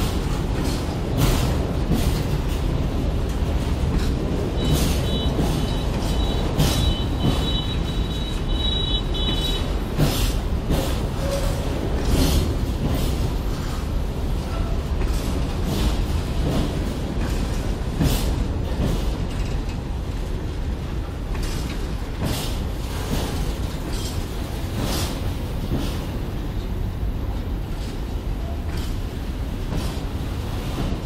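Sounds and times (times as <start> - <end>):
train wheels rumbling on rail: 0.0 - 31.0
wheels clacking over rail joints: 0.0 - 31.0.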